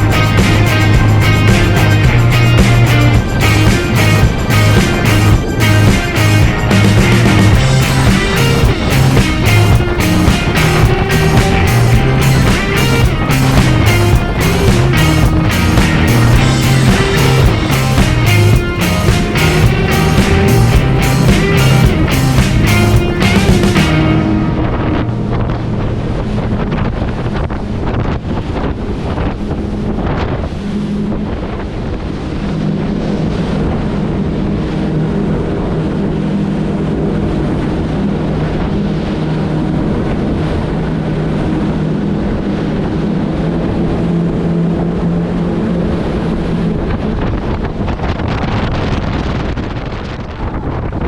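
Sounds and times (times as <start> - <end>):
boat engine drone: 0.0 - 51.0
rushing water: 0.0 - 51.0
wind buffeting microphone: 0.0 - 51.0.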